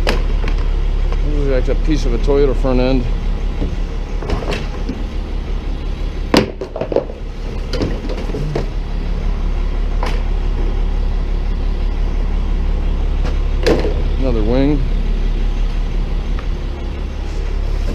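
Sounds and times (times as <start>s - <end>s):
engine idling: 0.0s - 17.9s.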